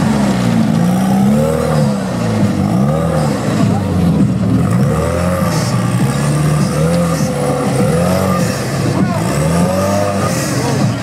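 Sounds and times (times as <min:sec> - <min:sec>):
buggy engine revving: 0:00.0 - 0:11.0.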